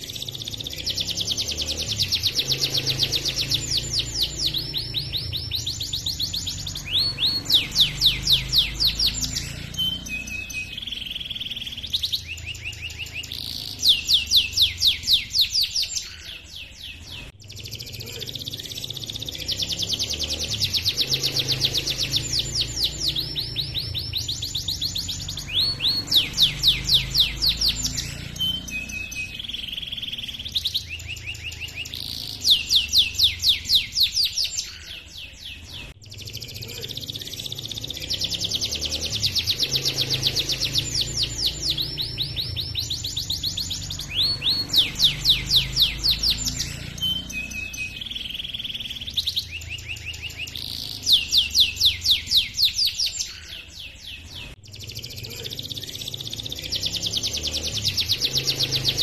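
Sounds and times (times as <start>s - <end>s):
canary singing trills and chirps: 0.0s - 59.0s.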